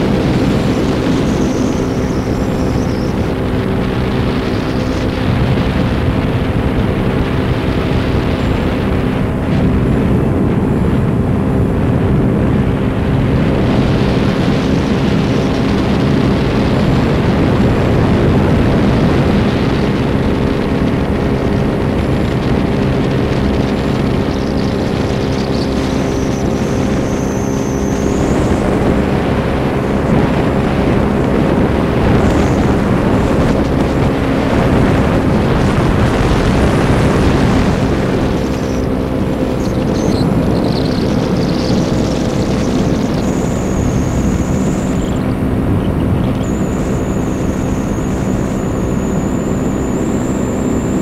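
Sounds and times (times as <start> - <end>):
paramotor engine drone: 0.0 - 51.0
wind noise on microphone: 0.0 - 51.0.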